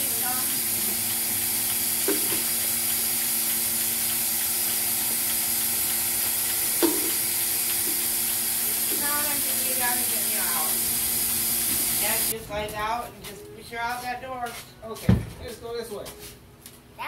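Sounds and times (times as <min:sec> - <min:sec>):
vacuum system hissing and humming: 0:00.0 - 0:13.9.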